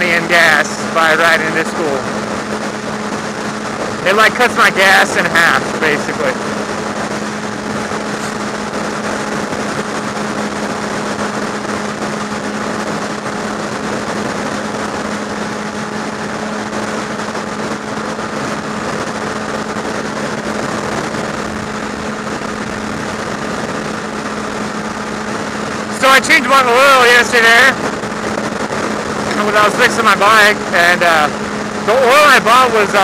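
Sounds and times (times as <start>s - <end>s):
motorcycle engine cruising: 0.0s - 33.0s
wind rushing over microphone: 0.0s - 33.0s.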